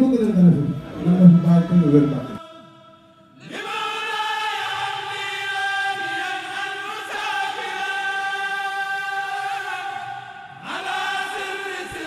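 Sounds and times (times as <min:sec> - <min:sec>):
voices chanting a long note: 0:00.0 - 0:12.0.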